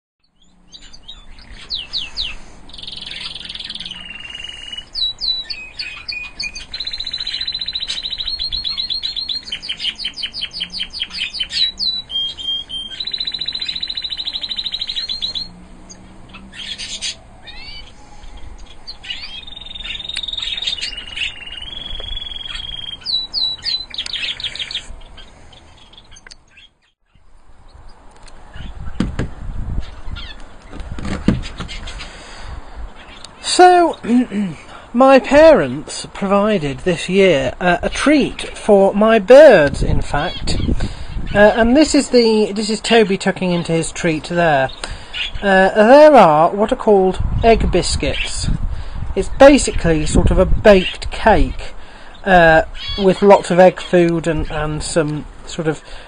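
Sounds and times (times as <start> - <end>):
canary singing trills: 0.2 - 29.1, 29.7 - 30.8, 32.9 - 34.2, 37.3 - 48.5, 49.2 - 56.0.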